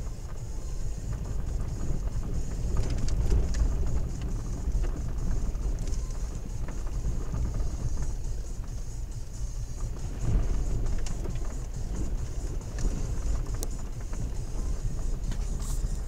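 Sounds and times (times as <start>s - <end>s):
tyre and engine rumble: 0.0s - 16.0s
car knocks and rattles: 1.0s - 16.0s.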